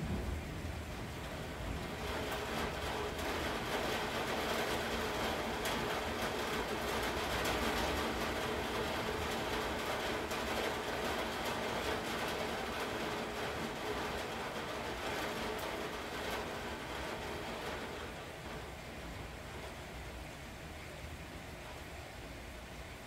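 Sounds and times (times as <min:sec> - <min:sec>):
faint ticks of raindrops: 0:00.0 - 0:23.0
steady rain: 0:00.0 - 0:23.0.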